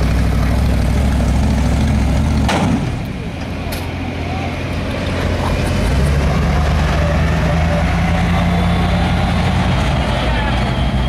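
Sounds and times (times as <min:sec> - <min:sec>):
loud truck engine running: 0:00.0 - 0:11.0.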